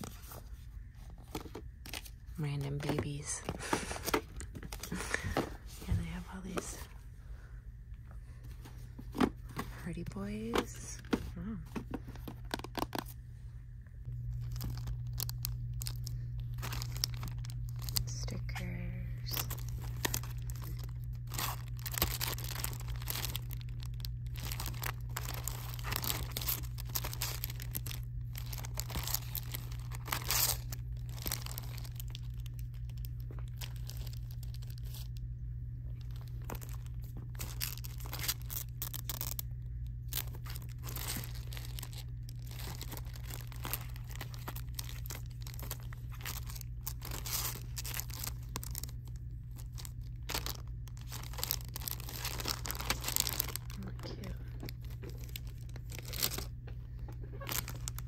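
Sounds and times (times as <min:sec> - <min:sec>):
plastic wrapping crinkling: 0:00.0 - 0:06.9, 0:14.0 - 0:58.0
steady low hum: 0:00.0 - 0:58.0.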